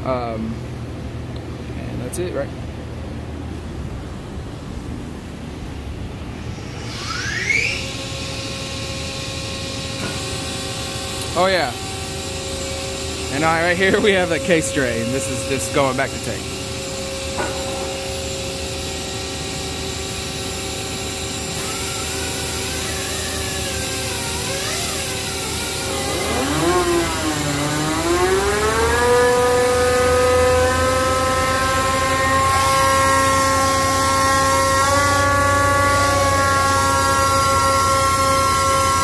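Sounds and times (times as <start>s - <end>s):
hydraulic pump whine: 3.1s - 39.0s.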